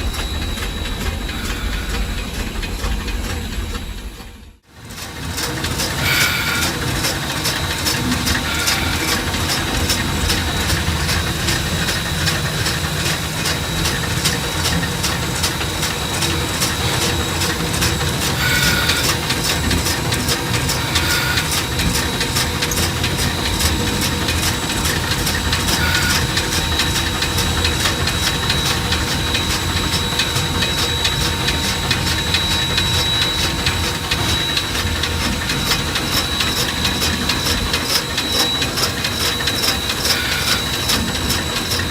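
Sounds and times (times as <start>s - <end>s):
high whine and hiss: 0.0s - 4.6s, 5.9s - 41.9s
steam locomotive running gear clatter: 0.0s - 41.9s.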